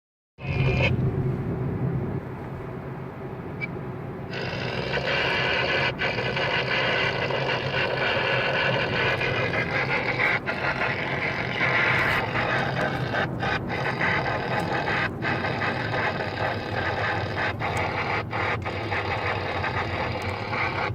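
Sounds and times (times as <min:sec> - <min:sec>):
road noise rushing: 0:00.4 - 0:20.9
vehicle engine hum: 0:00.4 - 0:20.9.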